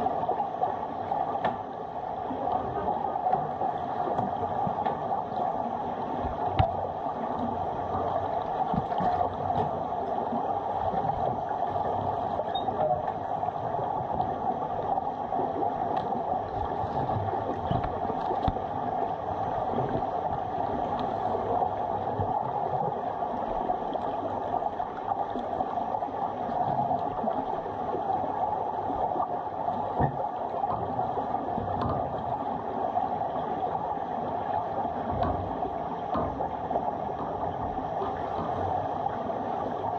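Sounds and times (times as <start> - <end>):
muffled underwater hiss and rumble: 0.0 - 39.9.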